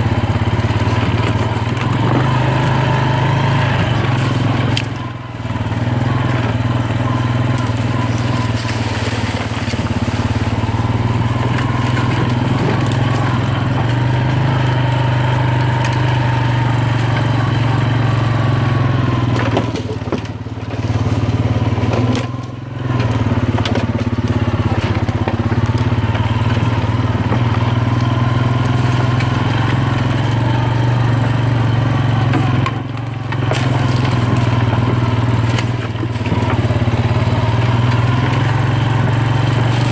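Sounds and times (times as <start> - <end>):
atv engine running: 0.0 - 39.9
leaves crunching under tyres: 0.0 - 39.9.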